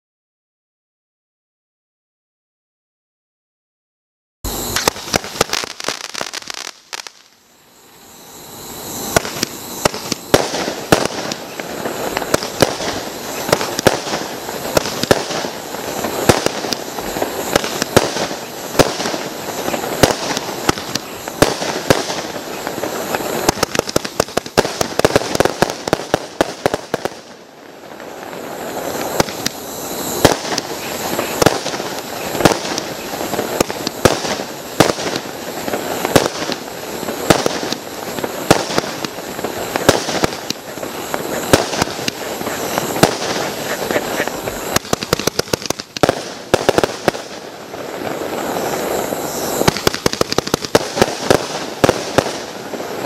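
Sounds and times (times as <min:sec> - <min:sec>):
fireworks launching and bursting: 0:04.4 - 0:53.0.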